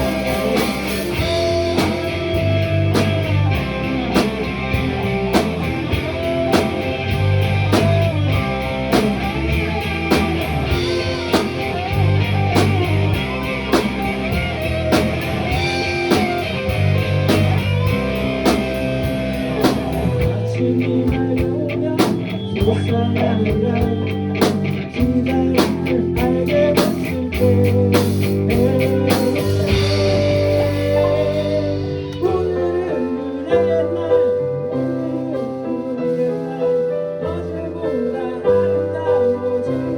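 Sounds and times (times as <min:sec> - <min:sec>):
person singing: 0:00.0 - 0:14.3, 0:15.1 - 0:39.9
drum kit beating: 0:00.0 - 0:33.1
bass guitar: 0:00.0 - 0:39.9
electric guitar: 0:00.0 - 0:39.9.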